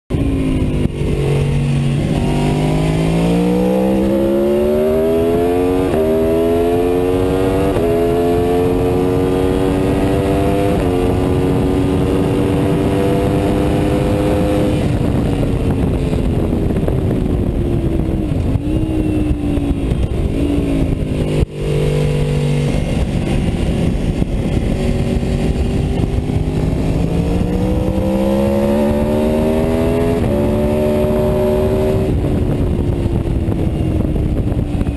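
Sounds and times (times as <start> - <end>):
motorcycle engine accelerating: 0.1 - 34.9
wind rush: 0.1 - 34.9.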